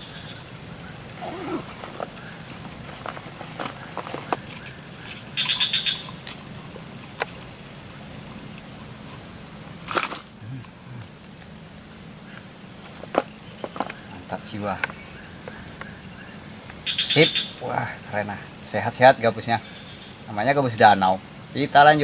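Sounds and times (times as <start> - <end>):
insects trilling: 0.0 - 22.0
rapid chirping: 0.0 - 22.0.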